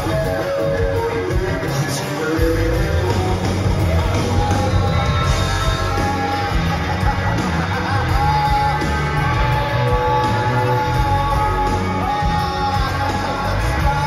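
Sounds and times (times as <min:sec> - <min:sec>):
bass and drums: 0:00.0 - 0:14.0
live rock band playing: 0:00.0 - 0:14.0.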